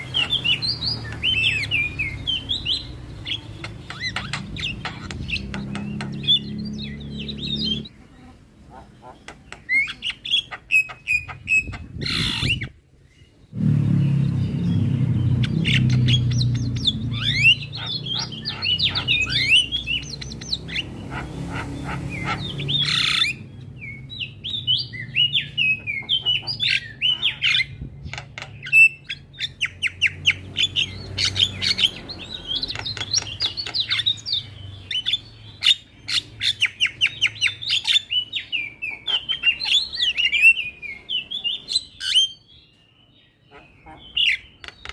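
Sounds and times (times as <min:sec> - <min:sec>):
birds chirping and squawking: 0:00.0 - 0:44.9.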